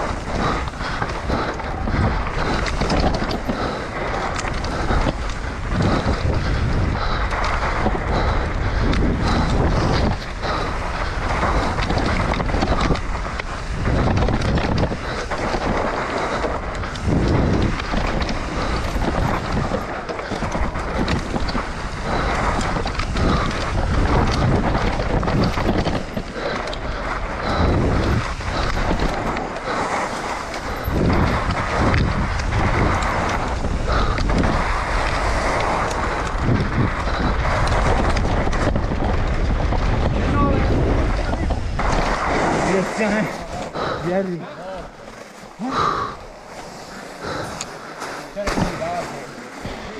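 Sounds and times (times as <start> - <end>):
bike rattling over bumps: 0.0 - 49.9
tyres rushing on dirt: 0.0 - 49.9
wind buffeting microphone: 0.0 - 49.9.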